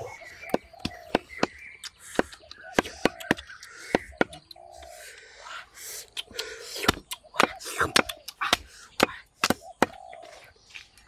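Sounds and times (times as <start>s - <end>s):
bird calls: 0.0s - 11.0s.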